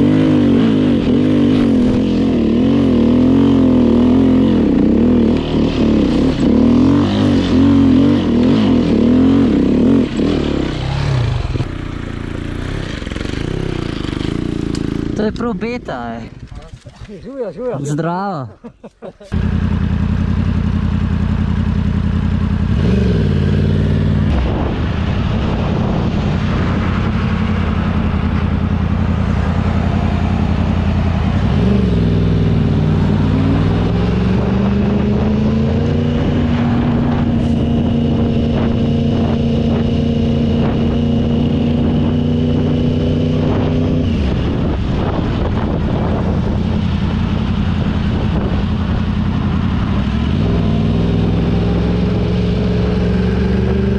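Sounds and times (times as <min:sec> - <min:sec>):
motorcycle engine running: 0:00.0 - 0:17.5, 0:18.8 - 0:53.9.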